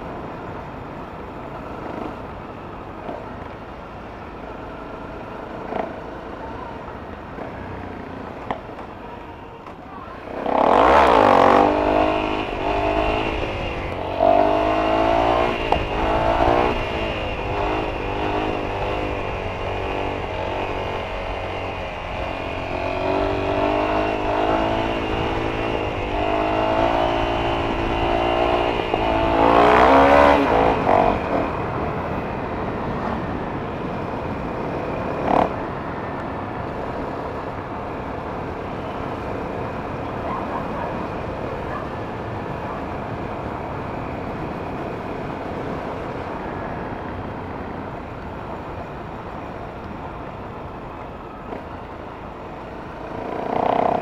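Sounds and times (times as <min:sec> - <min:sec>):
motorcycle engine accelerating: 0:04.3 - 0:09.2, 0:10.0 - 0:54.0.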